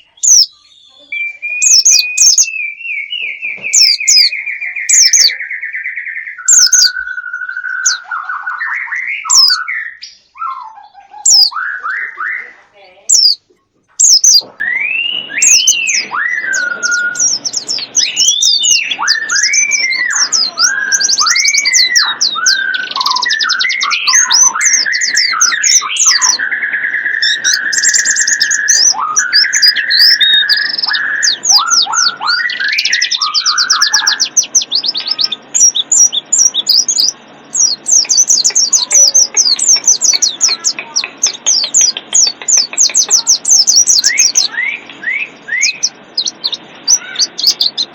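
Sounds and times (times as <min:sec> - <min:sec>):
looping rising and falling whistles: 0:00.0 - 0:13.4, 0:14.0 - 0:40.4, 0:43.3 - 0:47.9
rapid high bird twittering: 0:00.0 - 0:47.9.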